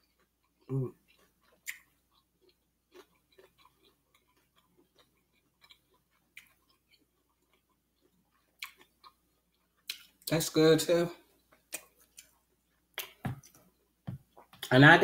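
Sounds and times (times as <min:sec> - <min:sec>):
chewing with wet clicks: 0:00.0 - 0:10.4, 0:11.3 - 0:14.8.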